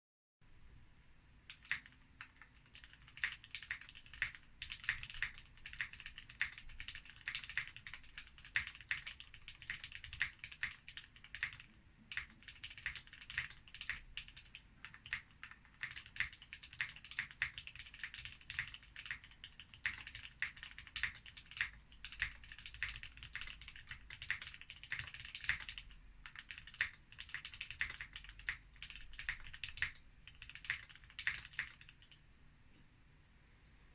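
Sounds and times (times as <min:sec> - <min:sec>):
mechanical keyboard typing: 0:01.5 - 0:32.2.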